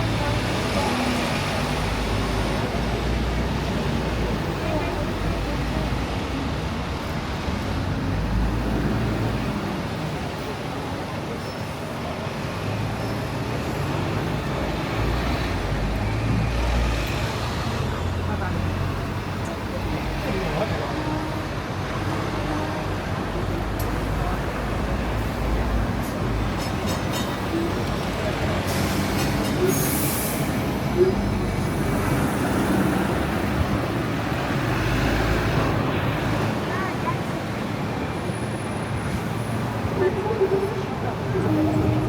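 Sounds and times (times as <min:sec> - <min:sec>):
motor vehicles running: 0:00.0 - 0:11.4, 0:12.0 - 0:42.0
city traffic rumble: 0:00.0 - 0:42.0.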